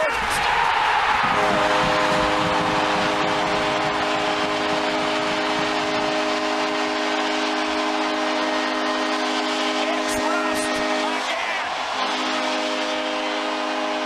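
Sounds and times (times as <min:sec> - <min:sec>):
crowd cheering loudly: 0:00.0 - 0:14.0
goal horn blaring: 0:00.8 - 0:14.0.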